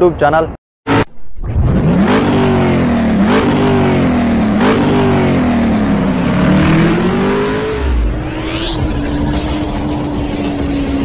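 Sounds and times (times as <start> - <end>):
engine revving: 0.9 - 11.0
rising whoosh: 0.9 - 11.0.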